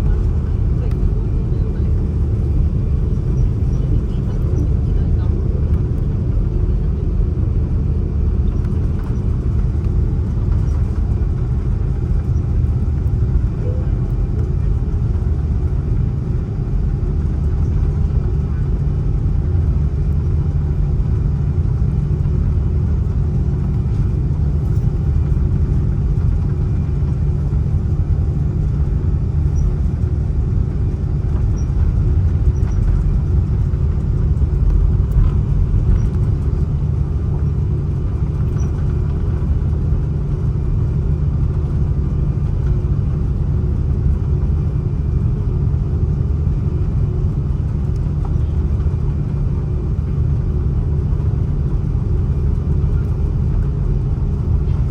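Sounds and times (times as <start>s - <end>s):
airliner cabin low rumble: 0.0s - 54.9s.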